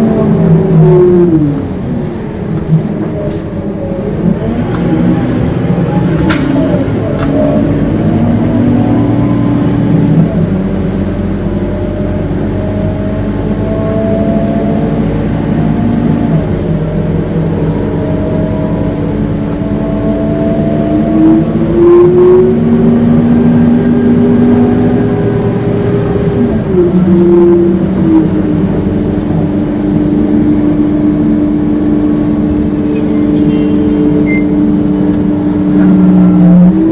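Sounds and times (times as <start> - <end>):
bus diesel engine under load: 0.0 - 36.9
drivetrain howling whine: 0.0 - 36.9.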